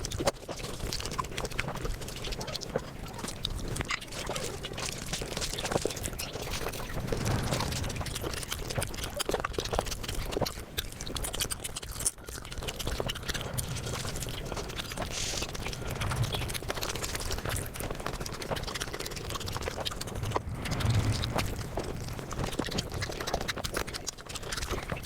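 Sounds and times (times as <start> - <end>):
person chewing and smacking: 0.0 - 6.9, 8.2 - 25.0.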